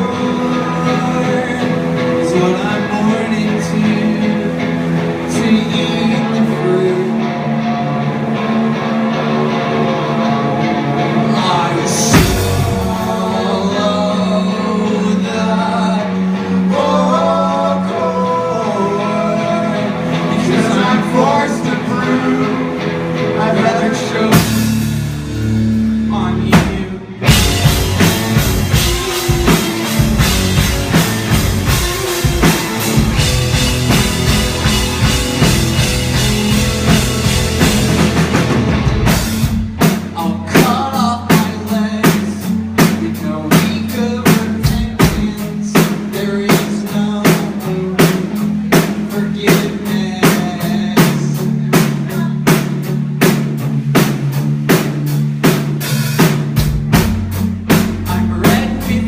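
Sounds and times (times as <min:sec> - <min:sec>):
bass line: 0:00.0 - 0:59.0
drum kit playing: 0:00.0 - 0:59.0.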